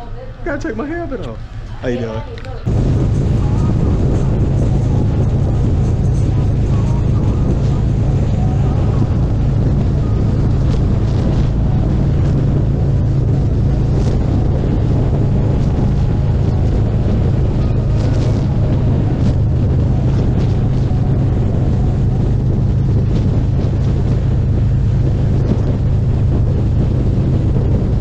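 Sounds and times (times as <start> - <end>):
wind on microphone: 0.0 - 28.0
motorcycle engine running: 2.7 - 28.0.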